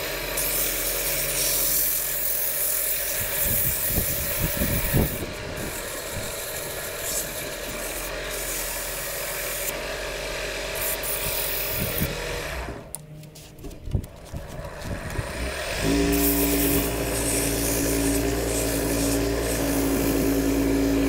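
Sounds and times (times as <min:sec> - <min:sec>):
lathe motor hum: 0:00.0 - 0:12.9, 0:14.2 - 0:21.0
sandpaper rubbing hiss: 0:00.3 - 0:09.7, 0:10.8 - 0:12.1, 0:13.4 - 0:21.0.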